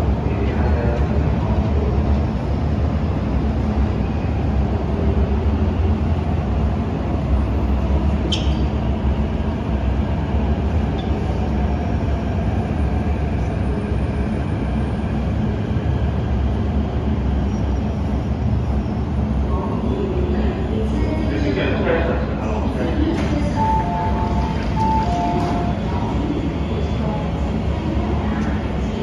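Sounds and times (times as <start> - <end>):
train wheels rumbling: 0.0 - 29.0.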